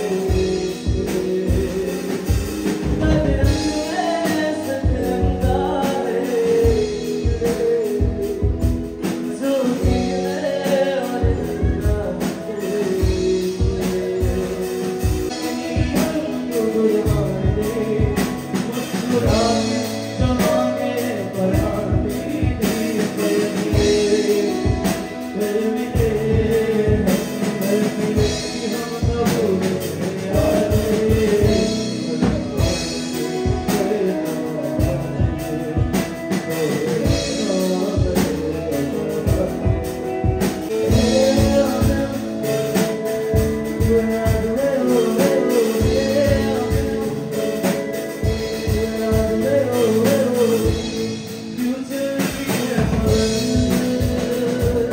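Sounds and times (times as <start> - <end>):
drum beat: 0.0 - 54.9
live band playing: 0.0 - 54.9
man singing into microphone: 0.0 - 54.9.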